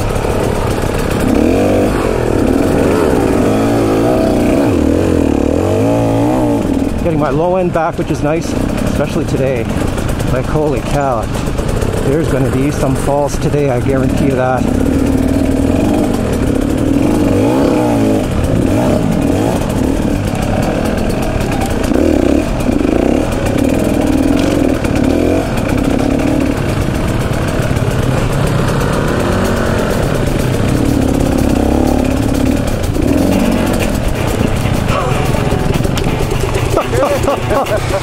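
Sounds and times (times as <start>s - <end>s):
two-stroke motorbike engine revving: 0.0s - 38.0s.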